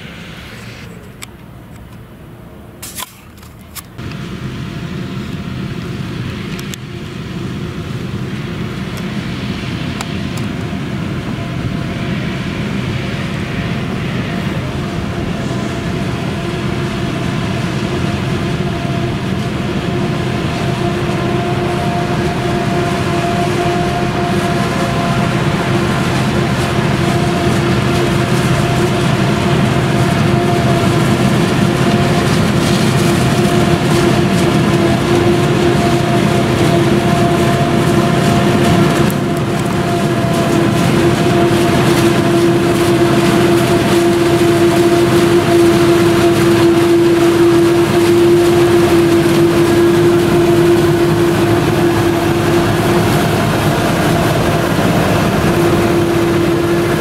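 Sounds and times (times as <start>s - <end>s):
harvester engine rumble: 0.0s - 57.0s
steady whine: 0.0s - 57.0s
tractor engine: 0.0s - 57.0s.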